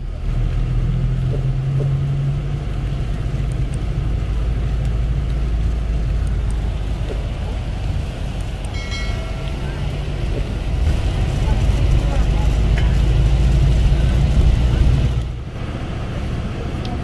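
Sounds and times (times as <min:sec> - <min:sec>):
tyre and road noise: 0:00.0 - 0:17.0
van engine drone: 0:00.0 - 0:17.0.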